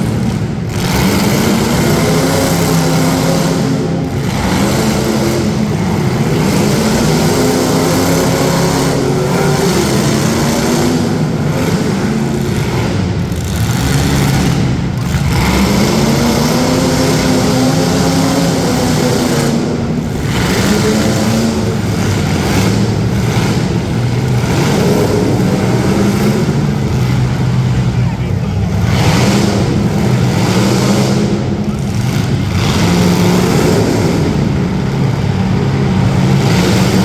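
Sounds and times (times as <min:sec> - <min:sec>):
car engines revving hard: 0:00.0 - 0:37.0.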